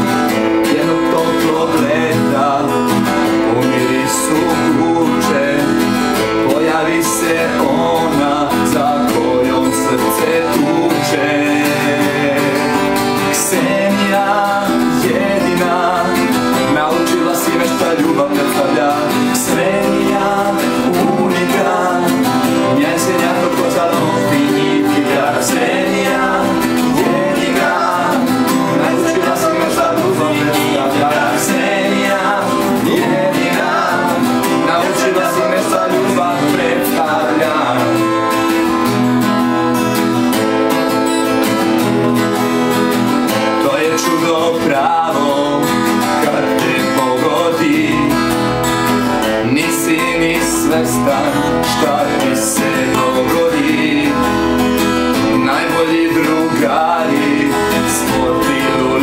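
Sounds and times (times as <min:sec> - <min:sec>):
man singing: 0:00.0 - 0:39.0, 0:40.8 - 0:59.0
acoustic guitars strumming: 0:00.0 - 0:59.0.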